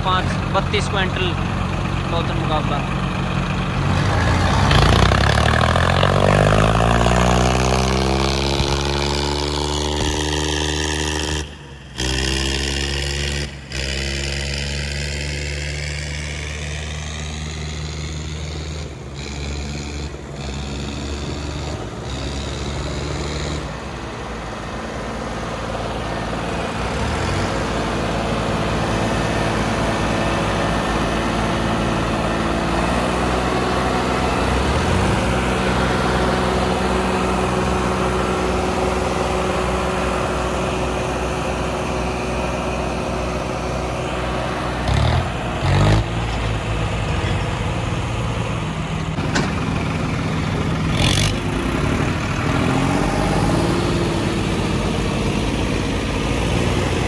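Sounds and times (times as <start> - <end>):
tractor diesel engines revving: 0.0 - 57.0.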